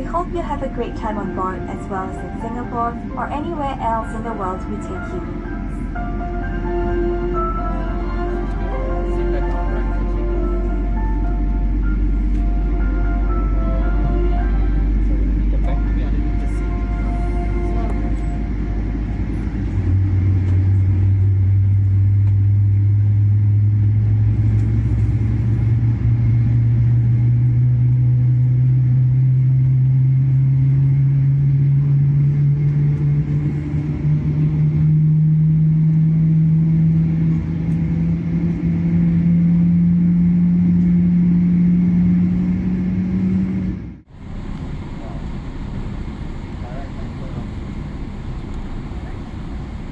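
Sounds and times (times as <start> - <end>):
jet engines at high thrust: 0.0 - 49.9
low hum rising in pitch: 0.0 - 49.9.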